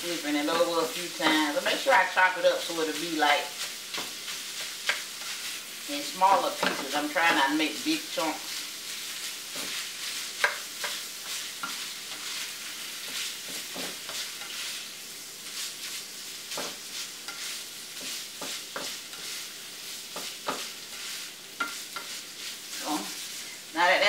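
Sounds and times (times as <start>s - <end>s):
sausage sizzling in a skillet: 0.0s - 24.0s
spatula scraping and tapping pan: 0.4s - 1.4s, 2.9s - 5.7s, 6.3s - 7.6s, 8.4s - 23.6s.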